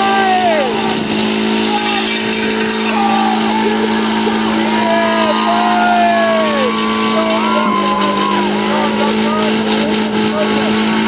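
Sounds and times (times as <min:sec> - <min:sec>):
car engine at high revs: 0:00.0 - 0:11.0
tyres squealing: 0:01.2 - 0:11.0.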